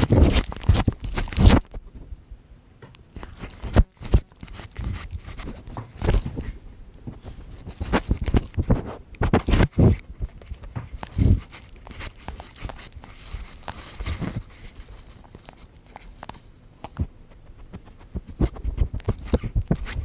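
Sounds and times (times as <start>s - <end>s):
dog licking a camera: 0.0s - 1.6s, 3.2s - 6.5s, 7.3s - 20.0s.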